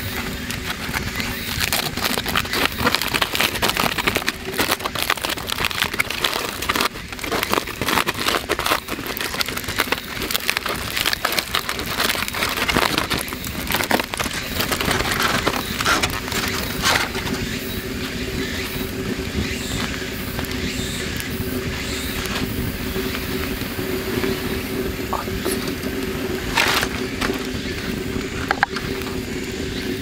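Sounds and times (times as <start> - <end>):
aluminium foil crinkling: 0.0 - 29.4.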